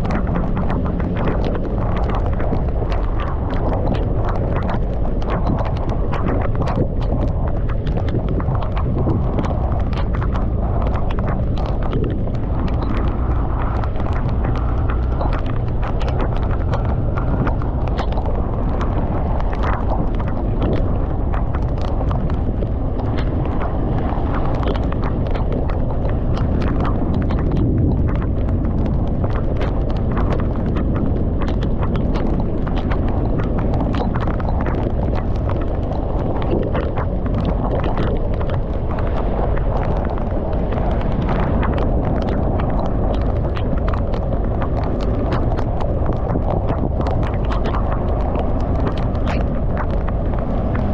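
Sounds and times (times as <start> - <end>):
raindrops ticking on camera: 0.0 - 50.9
wind and engine rumble: 0.0 - 50.9.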